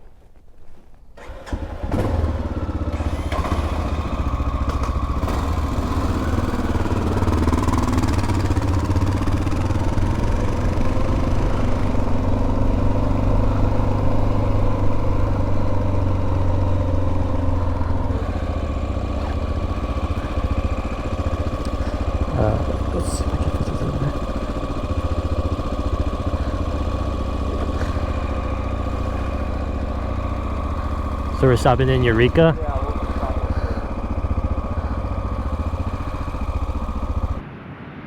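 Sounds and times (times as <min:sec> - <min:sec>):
motorcycle engine running: 0:01.2 - 0:37.4.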